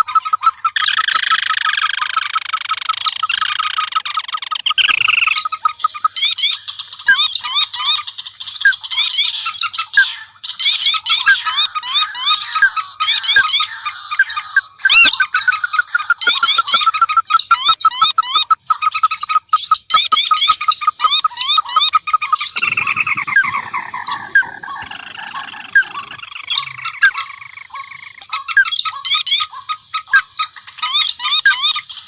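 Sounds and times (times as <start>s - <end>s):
falling bird call series: 0.0s - 32.0s
marsh birds calling: 0.0s - 32.0s.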